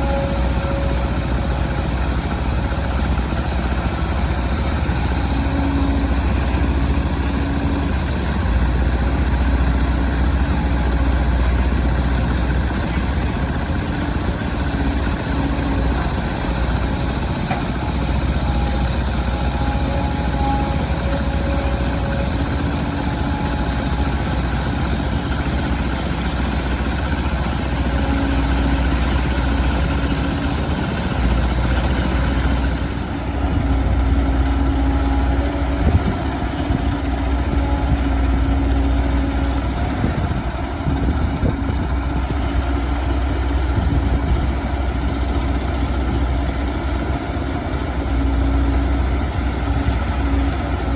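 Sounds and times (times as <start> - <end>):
excavator diesel engine rumbling: 0.0 - 50.9.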